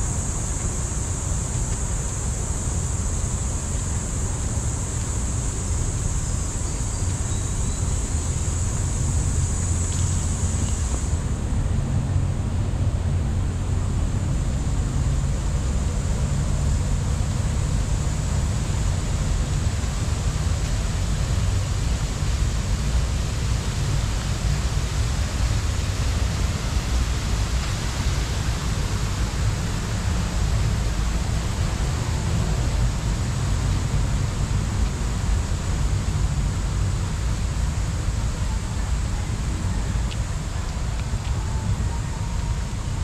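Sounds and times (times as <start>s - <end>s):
rushing noise with low rumble: 0.0s - 43.0s.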